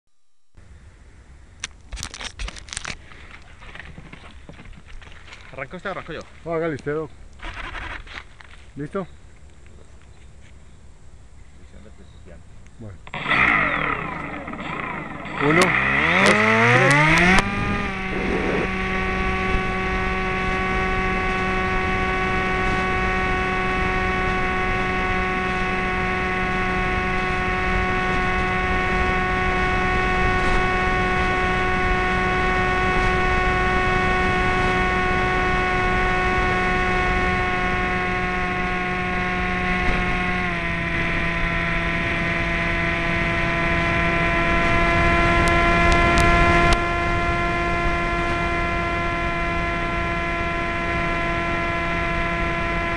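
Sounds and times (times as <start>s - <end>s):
model airplane motor humming: 0.6s - 8.5s, 12.8s - 52.9s.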